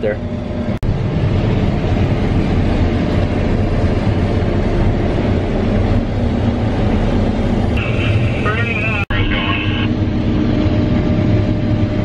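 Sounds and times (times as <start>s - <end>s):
combine harvester engine droning: 0.0s - 12.0s.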